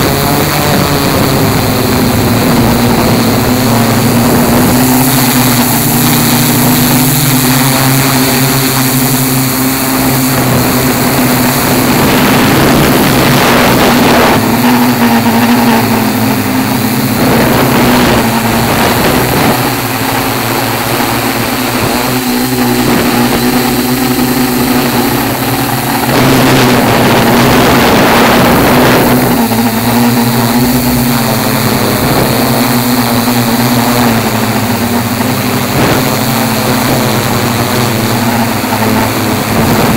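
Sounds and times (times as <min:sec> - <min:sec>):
drone motors and propellers droning: 0:00.0 - 0:39.9
wind rush: 0:00.0 - 0:39.9.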